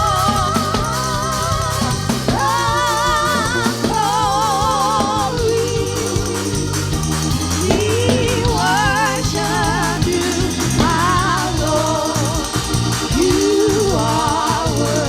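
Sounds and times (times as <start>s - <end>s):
instrumental accompaniment: 0.0s - 15.0s
person singing with vibrato: 0.0s - 15.0s.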